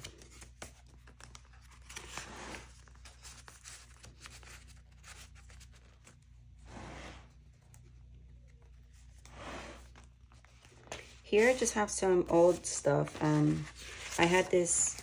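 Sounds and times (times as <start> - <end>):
paper rustling and crinkling: 0.0 - 6.4, 7.3 - 15.0
low steady hum: 0.0 - 15.0.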